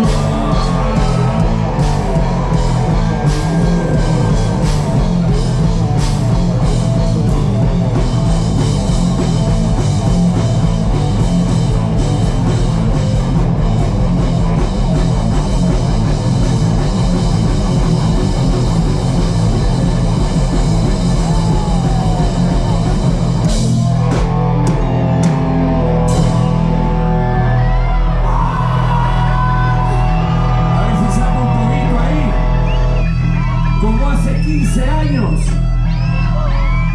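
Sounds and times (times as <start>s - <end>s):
rock band playing live: 0.0s - 36.9s.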